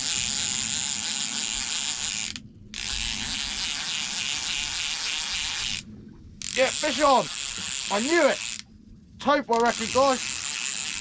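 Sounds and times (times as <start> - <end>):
fishing reel drag buzzing: 0.0 - 11.0.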